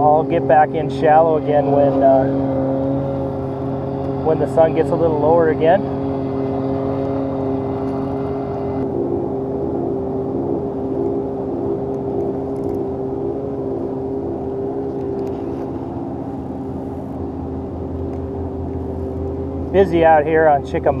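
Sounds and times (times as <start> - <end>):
electric outboard motor humming: 0.0 - 21.0.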